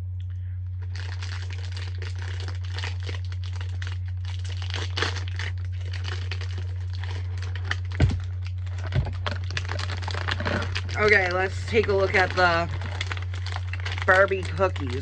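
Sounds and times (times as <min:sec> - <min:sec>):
steady low hum: 0:00.0 - 0:15.0
plastic packaging crinkling: 0:00.6 - 0:15.0.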